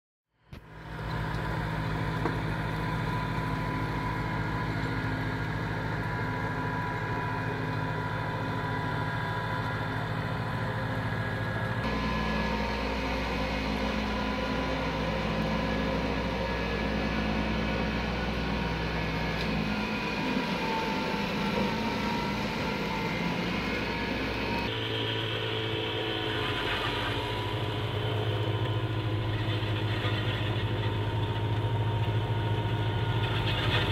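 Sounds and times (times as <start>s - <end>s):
tractor engine running under load: 0.4s - 33.9s
snow blower throwing snow: 0.6s - 33.9s.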